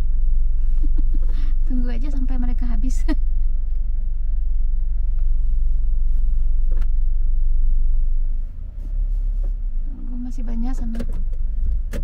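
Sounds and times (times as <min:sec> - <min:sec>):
car idling from inside cabin: 0:00.0 - 0:12.0.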